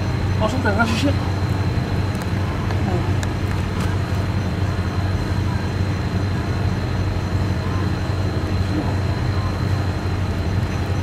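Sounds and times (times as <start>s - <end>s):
faint high whine: 0.0s - 11.0s
low engine drone: 0.0s - 11.0s.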